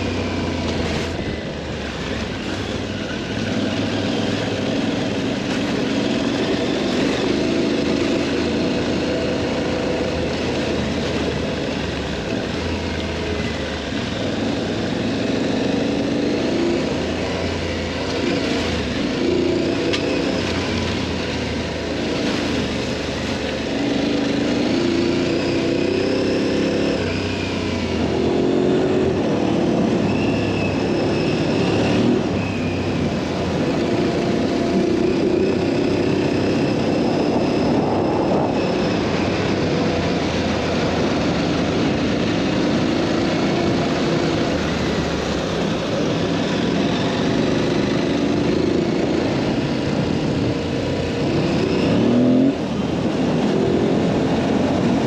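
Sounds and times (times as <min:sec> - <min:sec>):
motorcycle engine revving: 0:00.0 - 0:55.0
wind and tyre noise: 0:00.0 - 0:55.0.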